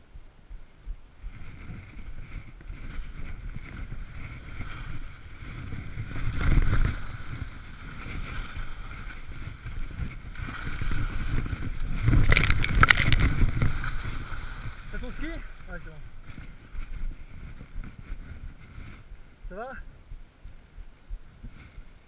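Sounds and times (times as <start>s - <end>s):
wind buffeting microphone: 0.0s - 22.0s
skis scraping on snow: 1.2s - 19.8s.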